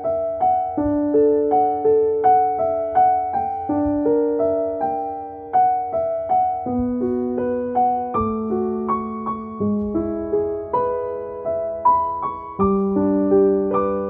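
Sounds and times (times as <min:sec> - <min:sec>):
soft slow piano music: 0:00.0 - 0:14.0.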